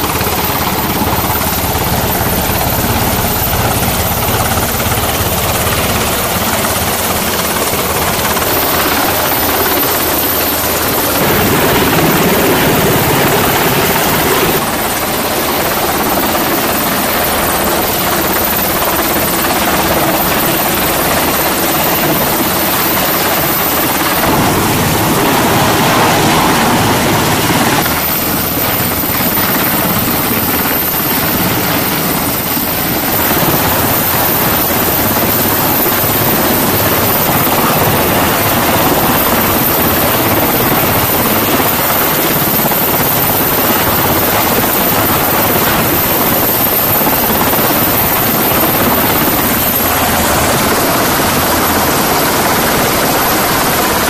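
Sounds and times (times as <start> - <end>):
helicopter rotor and turbine noise: 0.0 - 54.0.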